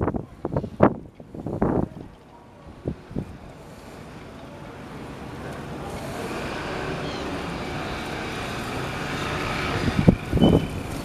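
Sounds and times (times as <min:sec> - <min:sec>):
motor traffic: 0:00.0 - 0:11.0.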